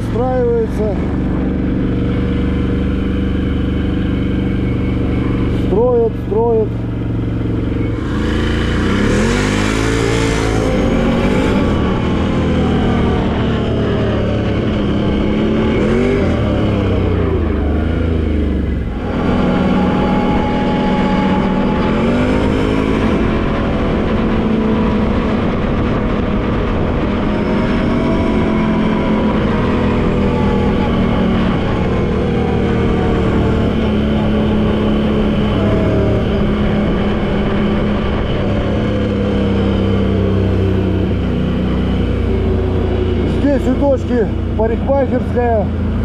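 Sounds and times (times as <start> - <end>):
quad bike engine revving: 0.0 - 46.0.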